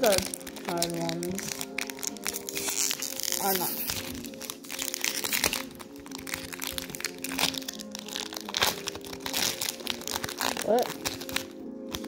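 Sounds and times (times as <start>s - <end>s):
background music: 0.0s - 12.0s
foil wrapper crinkling: 0.0s - 12.0s.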